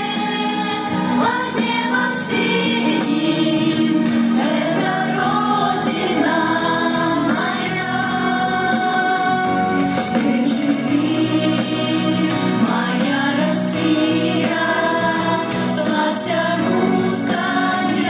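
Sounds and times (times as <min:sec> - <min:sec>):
children's choir song backing track: 0:00.0 - 0:18.0.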